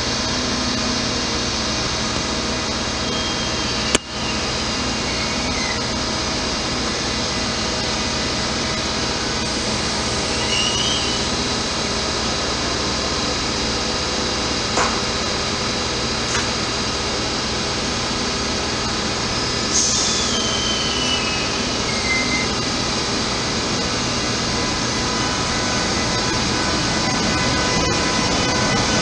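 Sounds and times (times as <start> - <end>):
locomotive cooling blowers humming: 0.0 - 29.0.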